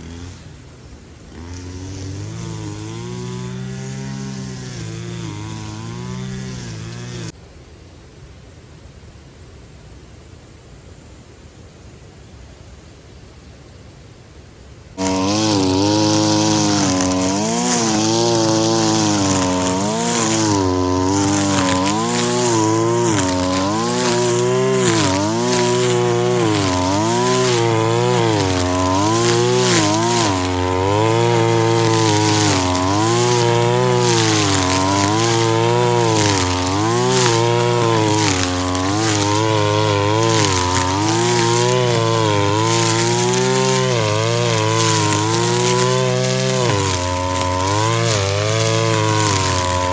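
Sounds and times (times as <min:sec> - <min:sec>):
brush cutter engine running: 0:00.0 - 0:07.4, 0:15.0 - 0:49.9.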